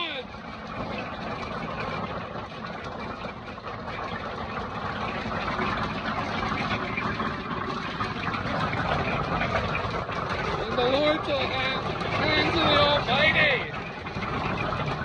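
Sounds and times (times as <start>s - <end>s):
hail pelting down: 0.0s - 15.0s.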